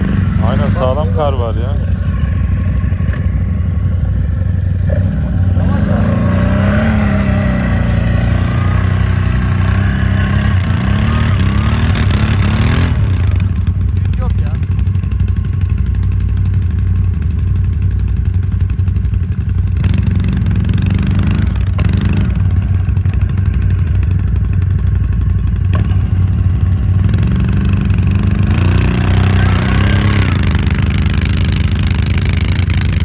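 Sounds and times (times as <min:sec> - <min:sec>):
atv engines revving: 0:00.0 - 0:33.0.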